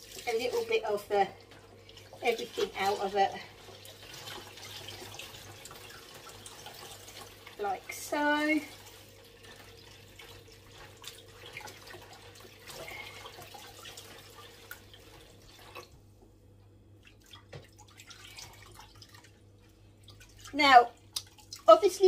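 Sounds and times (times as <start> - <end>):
water dripping and splashing: 0.0 - 16.0, 16.9 - 22.0.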